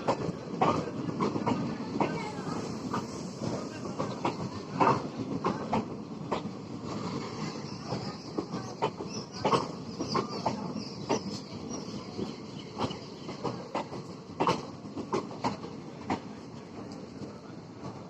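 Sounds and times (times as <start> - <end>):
train rumble: 0.0 - 18.0
train wheels knocking on rail joints: 0.0 - 18.0.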